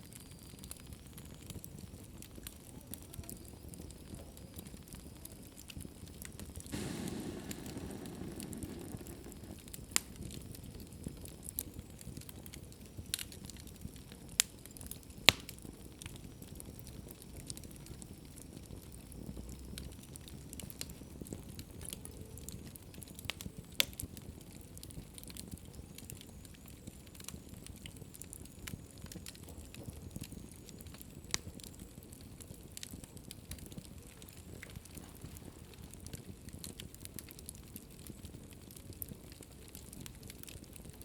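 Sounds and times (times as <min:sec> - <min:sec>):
fire popping: 0:00.0 - 0:41.0
wood fire crackling: 0:00.0 - 0:41.0.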